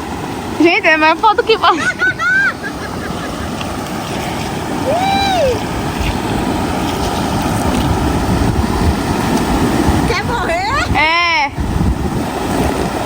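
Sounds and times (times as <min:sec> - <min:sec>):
river and waterfall rushing: 0:00.0 - 0:13.0.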